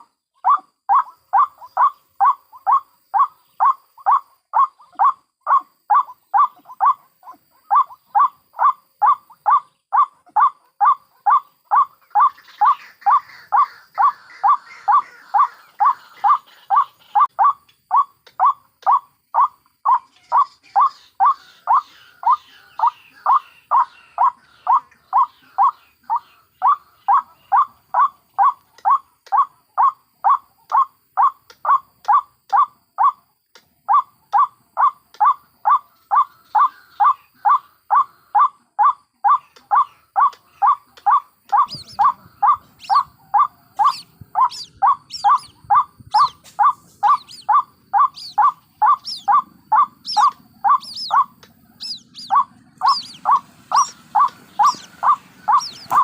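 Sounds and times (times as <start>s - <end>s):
waterhens calling: 0.0s - 32.2s, 34.4s - 56.0s
higher-pitched bird calls: 0.0s - 33.2s, 33.9s - 56.0s.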